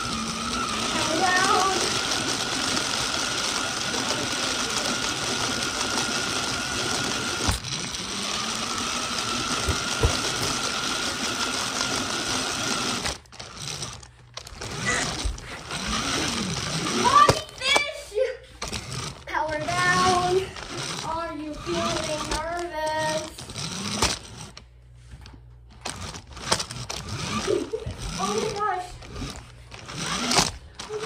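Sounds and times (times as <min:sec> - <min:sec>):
toy car motor whirring: 0:00.0 - 0:18.0, 0:18.6 - 0:24.7, 0:25.8 - 0:31.0.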